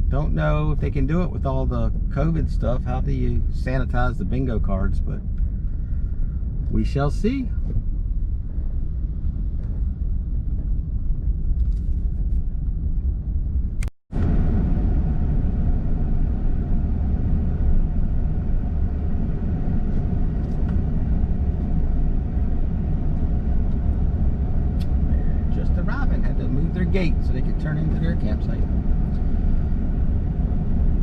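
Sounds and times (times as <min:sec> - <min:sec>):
car interior rumble: 0:00.0 - 0:31.0.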